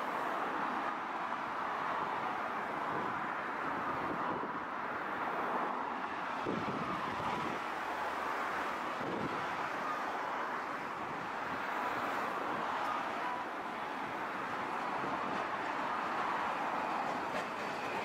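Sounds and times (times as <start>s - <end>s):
city road traffic: 0.0s - 18.0s
streetcar on tracks: 0.0s - 18.0s.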